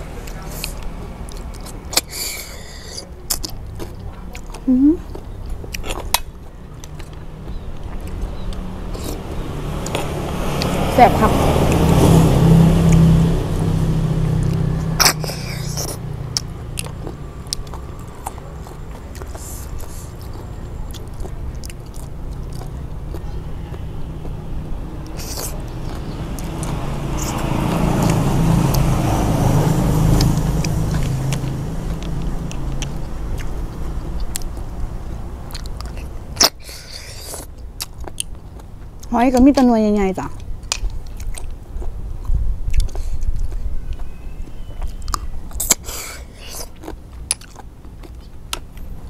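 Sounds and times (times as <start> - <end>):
low steady rumble: 0.0 - 49.0
person sucking and chewing snails: 0.1 - 10.8, 11.6 - 39.1, 40.3 - 49.0.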